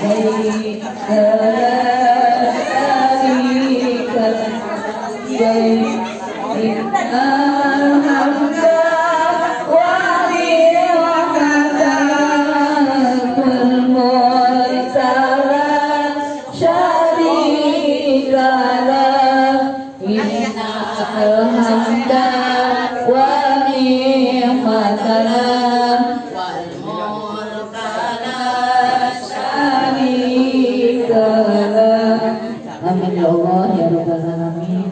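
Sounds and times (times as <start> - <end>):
women chanting together: 0.0 - 34.9.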